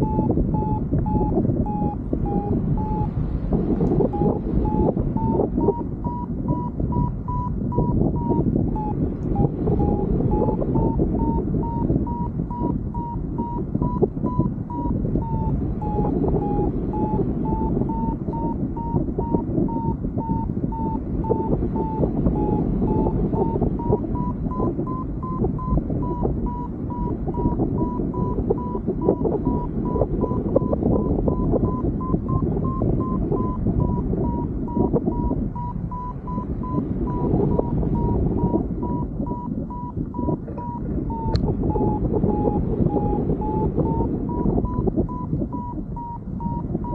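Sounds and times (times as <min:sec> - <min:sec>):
variometer beeping: 0:00.0 - 0:46.9
wind rush on microphone: 0:00.0 - 0:46.9.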